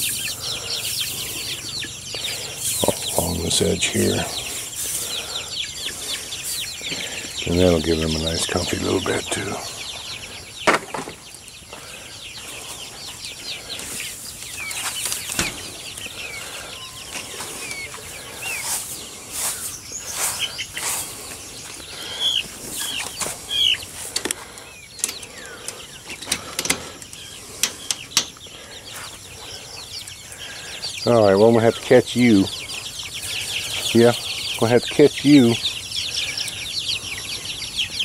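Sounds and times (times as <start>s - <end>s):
chicks peeping and clucking: 0.0s - 38.0s.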